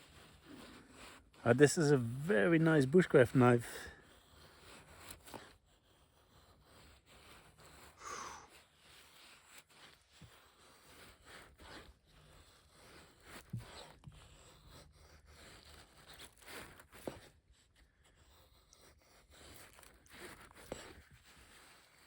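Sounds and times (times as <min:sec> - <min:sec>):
knife scraping wood: 0:00.0 - 0:22.0.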